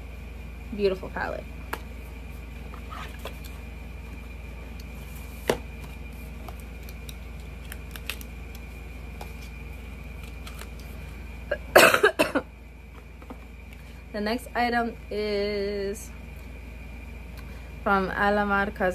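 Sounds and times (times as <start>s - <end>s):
faint high whine: 0.0s - 18.9s
steady low hum: 0.0s - 18.9s.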